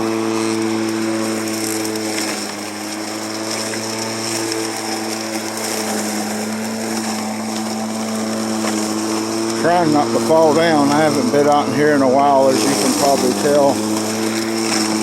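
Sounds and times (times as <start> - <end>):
blade cutting tall grass: 0.0 - 15.0
lawn mower humming: 0.0 - 15.0.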